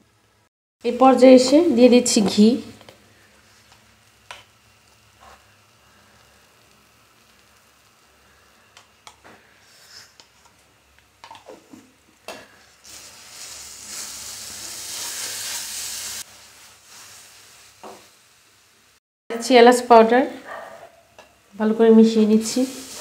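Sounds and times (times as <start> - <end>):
ghee sizzling in a pan: 0.1 - 19.6, 21.1 - 23.0.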